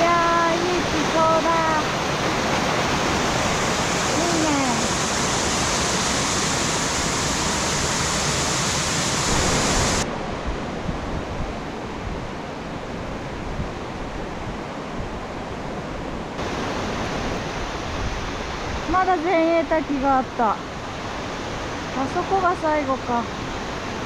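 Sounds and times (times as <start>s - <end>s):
stream and waterfall rushing: 0.0s - 24.0s.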